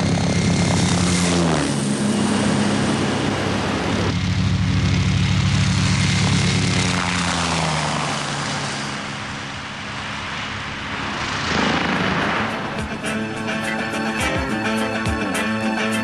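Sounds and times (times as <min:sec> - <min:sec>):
helicopter flying by: 0:00.0 - 0:16.0.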